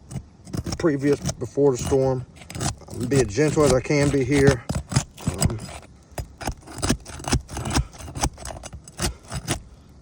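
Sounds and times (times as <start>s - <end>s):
roof shingle crackling and scraping: 0.0s - 9.8s.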